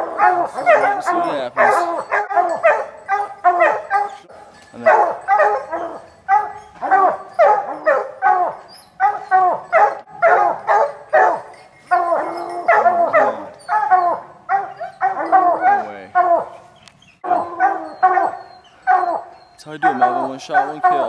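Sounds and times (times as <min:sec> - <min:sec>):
hounds barking: 0:00.0 - 0:21.0.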